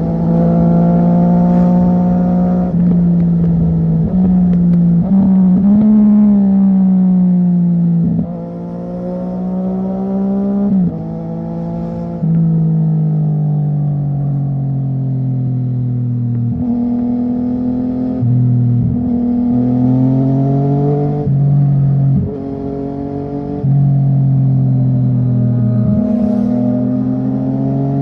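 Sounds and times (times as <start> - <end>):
motorcycle engine at speed: 0.0 - 28.0.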